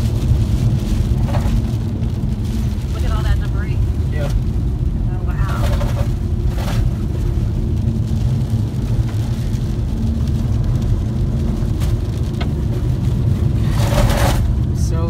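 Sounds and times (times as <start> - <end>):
tyres and engine rumble: 0.0 - 15.0.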